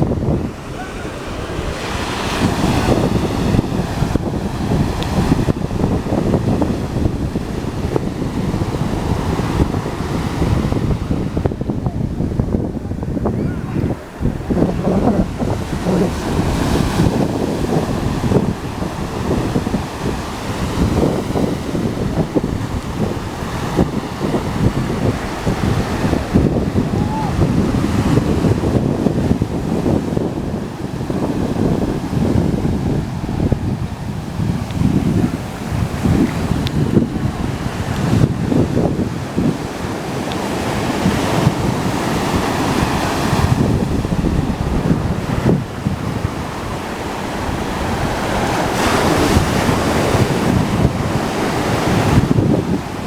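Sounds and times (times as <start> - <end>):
ocean surf: 0.0 - 53.0
wind buffeting microphone: 0.0 - 53.0.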